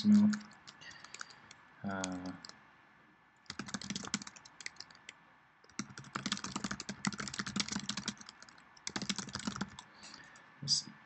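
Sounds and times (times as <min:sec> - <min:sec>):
typing on computer keyboard: 0:00.0 - 0:02.6, 0:03.5 - 0:09.9.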